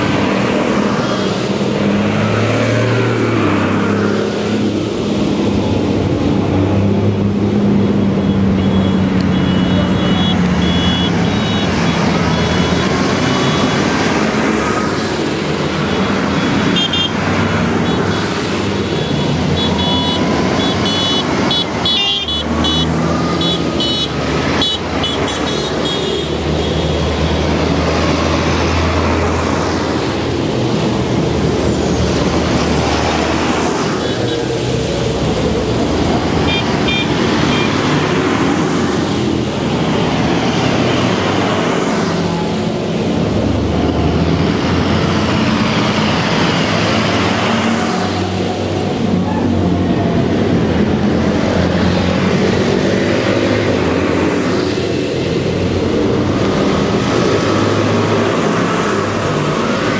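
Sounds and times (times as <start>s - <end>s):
tractor engines running: 0.0s - 59.9s.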